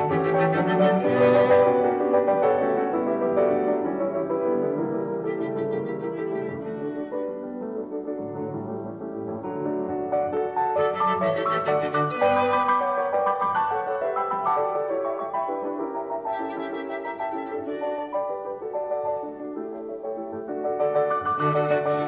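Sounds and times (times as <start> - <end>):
instrumental piano music: 0.0 - 22.0.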